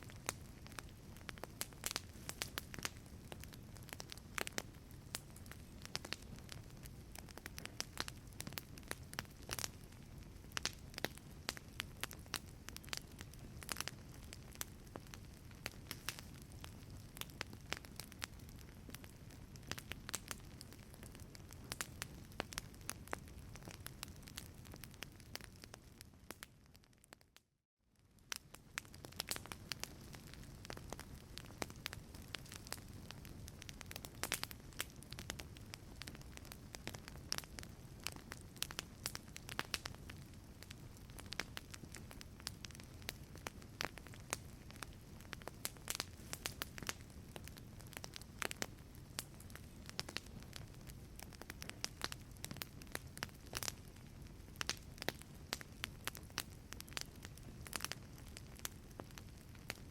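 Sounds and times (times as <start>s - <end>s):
wood fire crackling: 0.0s - 27.4s, 28.0s - 59.9s.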